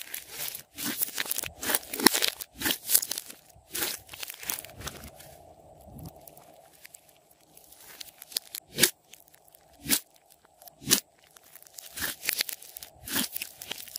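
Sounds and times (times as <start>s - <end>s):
slime crackling and popping: 0.0s - 13.9s.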